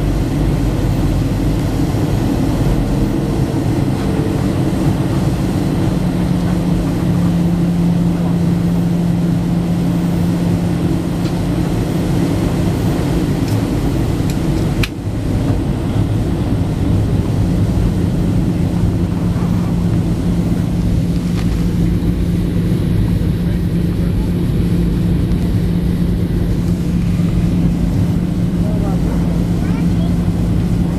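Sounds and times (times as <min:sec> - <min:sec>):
airplane cabin drone: 0:00.0 - 0:30.9.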